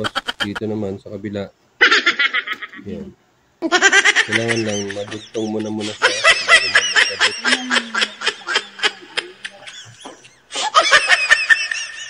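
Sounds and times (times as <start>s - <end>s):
high-pitched laughter: 0.0s - 0.6s, 1.8s - 2.9s, 3.6s - 12.0s.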